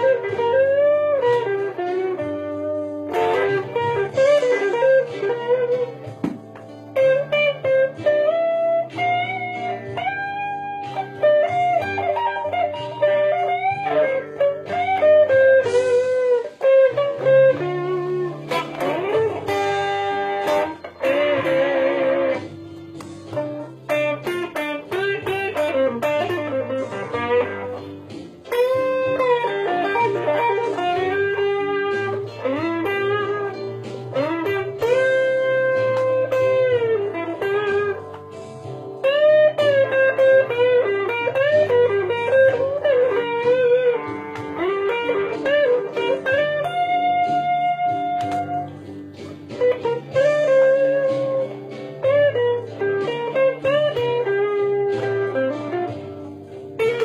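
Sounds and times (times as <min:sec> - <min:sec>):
electric guitar lead line: 0:00.0 - 0:57.0.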